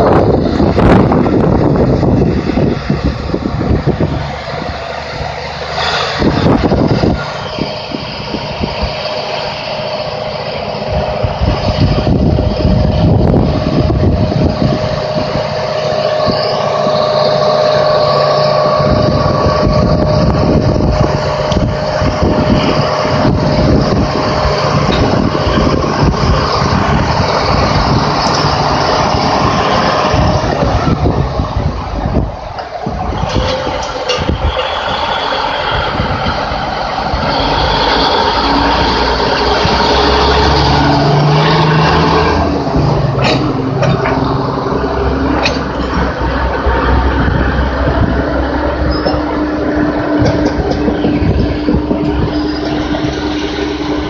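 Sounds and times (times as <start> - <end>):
diesel locomotive engine rumbling: 0.0 - 54.0
steady whine: 0.0 - 54.0.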